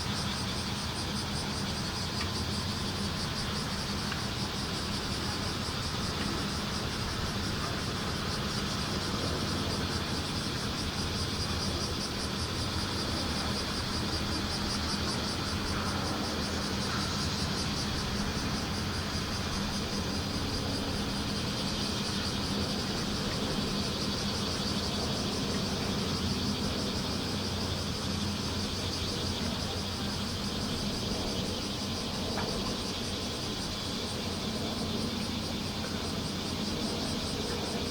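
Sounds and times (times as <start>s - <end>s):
cicadas buzzing: 0.0s - 37.9s.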